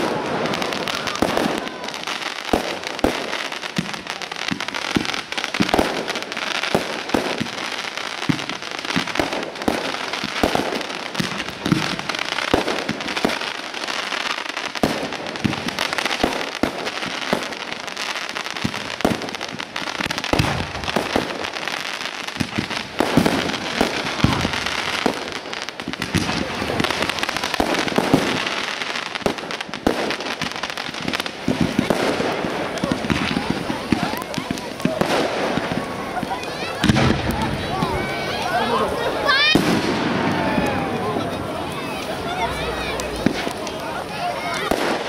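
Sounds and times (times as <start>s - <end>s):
continuous hiss: 0.0s - 45.0s
fireworks bangs: 0.0s - 45.0s.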